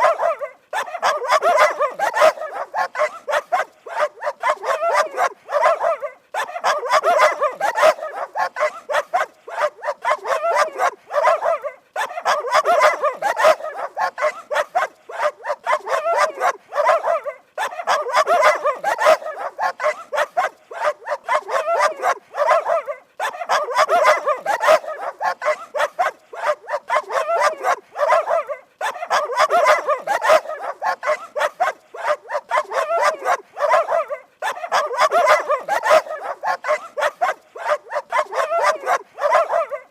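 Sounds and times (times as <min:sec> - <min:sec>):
dogs barking angrily: 0:00.0 - 0:39.9.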